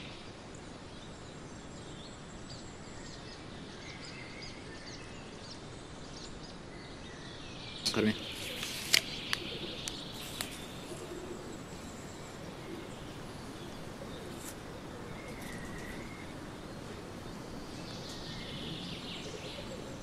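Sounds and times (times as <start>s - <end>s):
steady background hiss: 0.0s - 20.0s
faint bird chirps: 0.9s - 20.0s.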